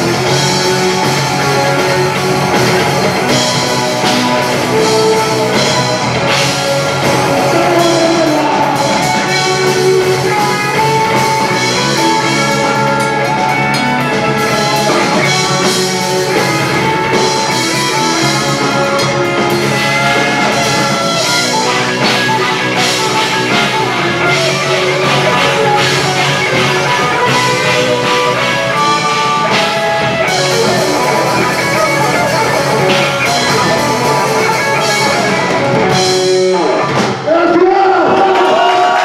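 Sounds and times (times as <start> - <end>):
crowd cheering and shouting: 0.0 - 39.0
metal band playing live: 0.0 - 39.0.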